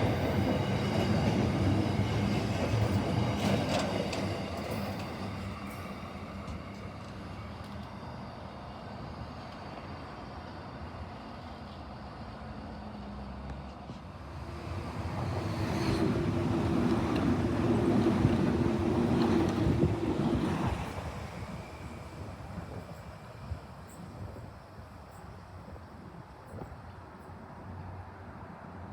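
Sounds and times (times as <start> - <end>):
train passing: 0.0 - 26.6.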